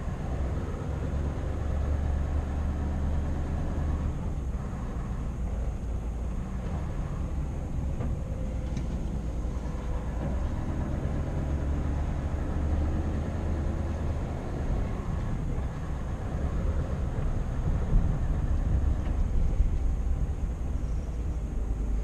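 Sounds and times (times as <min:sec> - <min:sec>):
diesel truck engine drone: 0:00.0 - 0:22.0
road noise: 0:00.0 - 0:22.0.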